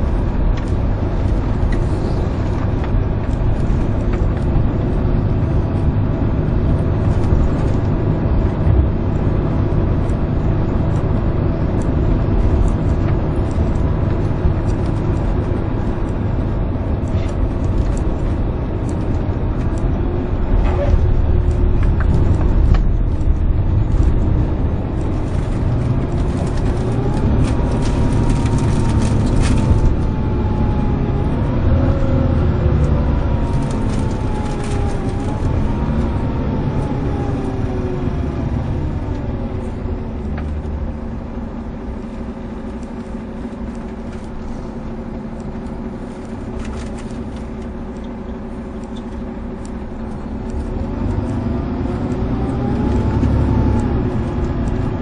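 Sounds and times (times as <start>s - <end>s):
diesel coach engine pulling hard: 0.0s - 55.0s.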